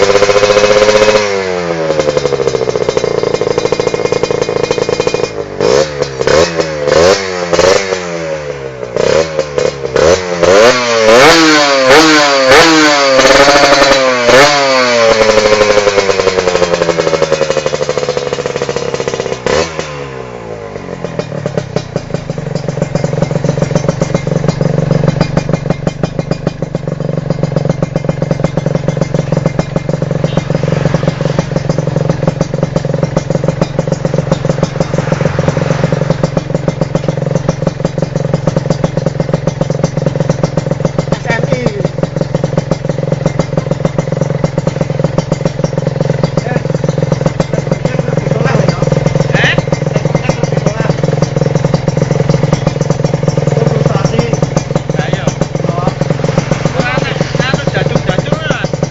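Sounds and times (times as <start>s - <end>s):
motorcycle engine revving and idling: 0.0s - 58.9s.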